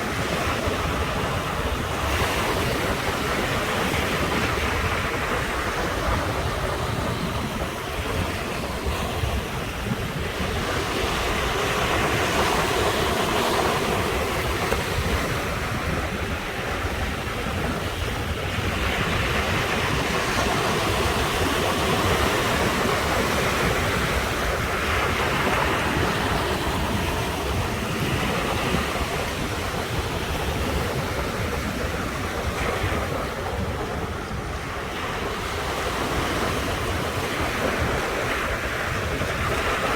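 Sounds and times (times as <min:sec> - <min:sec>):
sea waves breaking on shore: 0:00.0 - 0:39.9
wind buffeting microphone: 0:00.0 - 0:39.9.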